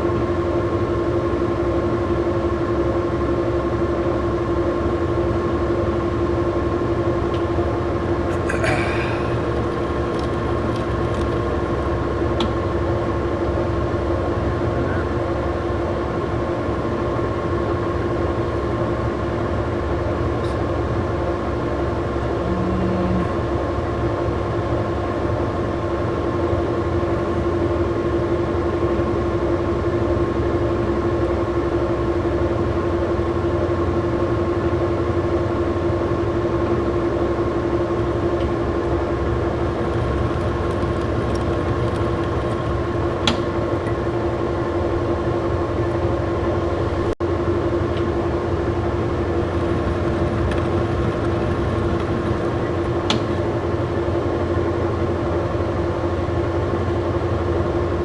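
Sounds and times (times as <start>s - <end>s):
lathe humming: 4.2s - 58.0s.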